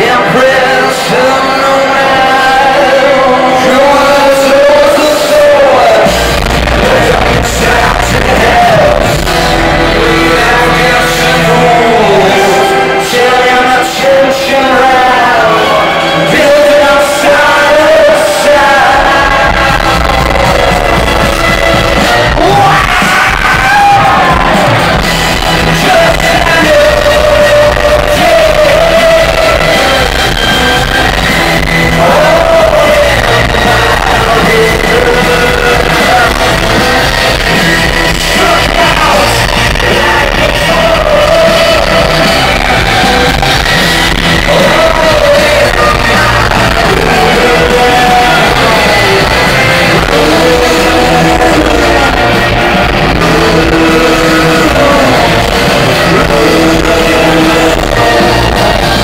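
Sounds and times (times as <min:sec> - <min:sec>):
live rock band with singer: 0:00.0 - 0:59.0.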